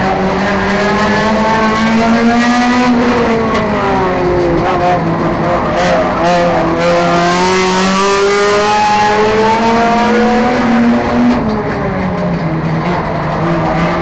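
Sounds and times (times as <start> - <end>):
race car engine under throttle: 0.0 - 14.0.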